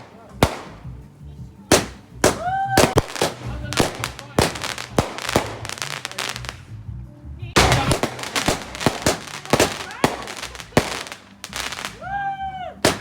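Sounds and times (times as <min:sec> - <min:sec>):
fireworks bangs and crackles: 0:00.0 - 0:06.7, 0:07.6 - 0:12.1, 0:12.8 - 0:13.0.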